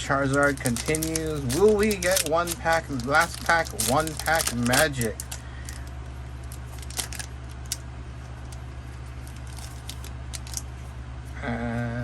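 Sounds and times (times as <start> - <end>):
card pack crinkling and clicks: 0.0 - 10.9
steady low hum: 0.0 - 12.0.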